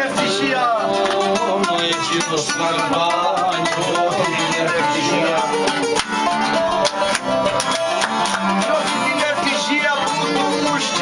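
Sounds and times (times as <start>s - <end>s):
bowed string melody: 0.0s - 11.0s
strummed plucked strings: 0.0s - 11.0s.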